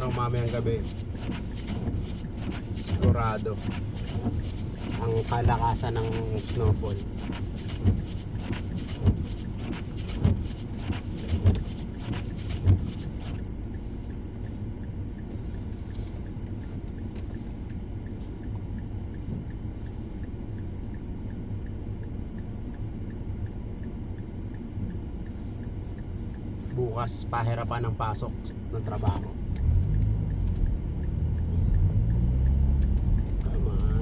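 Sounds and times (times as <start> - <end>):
low vehicle rumble: 0.0 - 34.0.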